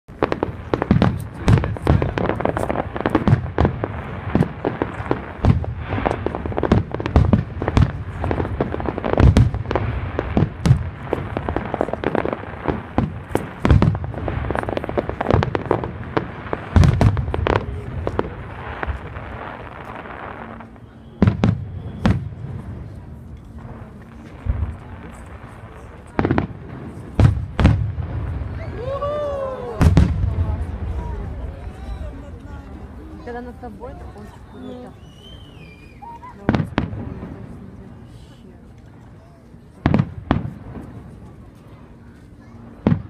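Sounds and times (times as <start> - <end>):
fireworks bangs and booms: 0.1 - 38.4, 39.1 - 43.0
fireworks crackle: 0.1 - 43.0.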